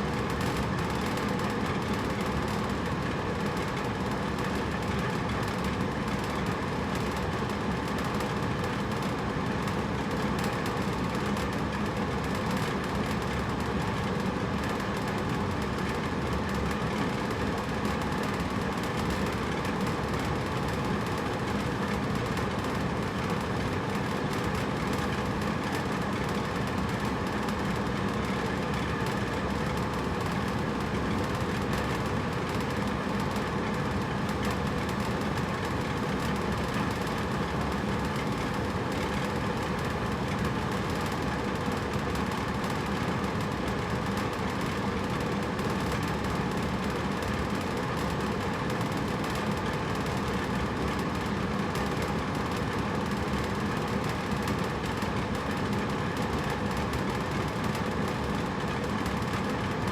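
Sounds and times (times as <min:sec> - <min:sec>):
air conditioner running: 0:00.0 - 0:59.9.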